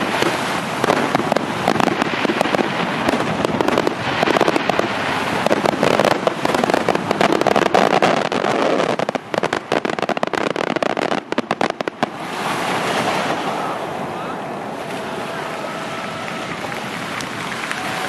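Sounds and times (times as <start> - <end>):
firework crackling: 0.0 - 14.0, 14.8 - 18.0
steady rushing noise: 0.0 - 18.0.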